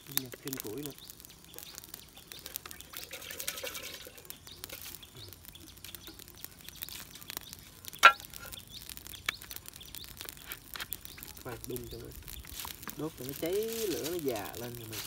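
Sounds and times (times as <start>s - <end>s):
campfire crackling: 0.0s - 15.0s
sharp loud crack of fire: 0.0s - 15.0s.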